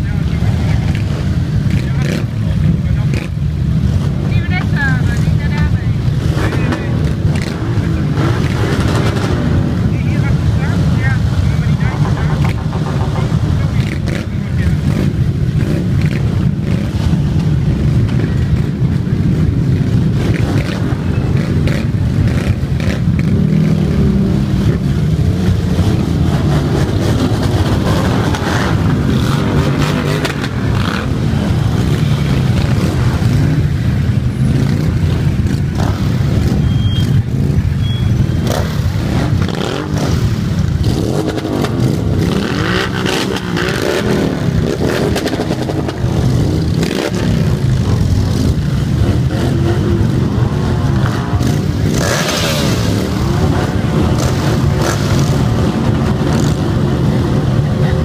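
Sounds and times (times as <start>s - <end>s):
motorcycle engines revving: 0.0s - 58.0s
motorcycles rumbling past: 0.0s - 58.0s.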